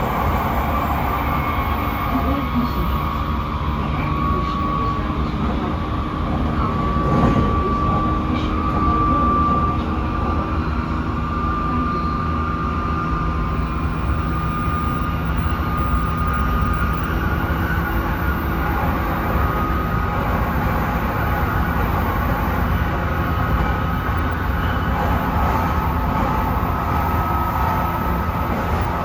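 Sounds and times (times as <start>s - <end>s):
train rush: 0.0s - 29.0s
train wheels rumbling on rail: 0.0s - 29.0s.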